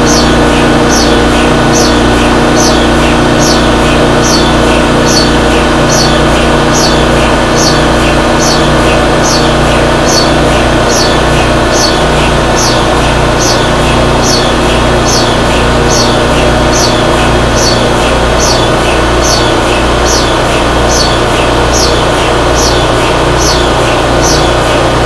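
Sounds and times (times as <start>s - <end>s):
loud steady machine hum: 0.0s - 25.0s.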